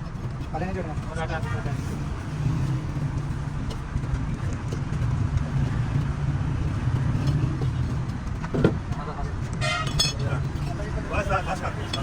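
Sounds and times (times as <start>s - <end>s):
roadside noise: 0.0s - 12.0s.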